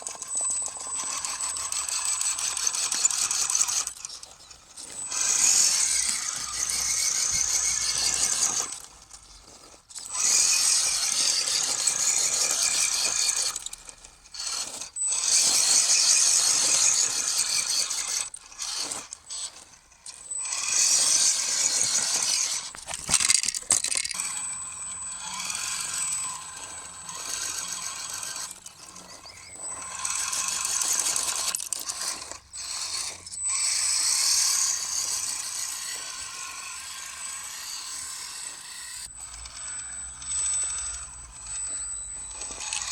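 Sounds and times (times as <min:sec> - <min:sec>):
toy truck motor whining and grinding: 0:00.0 - 0:42.9.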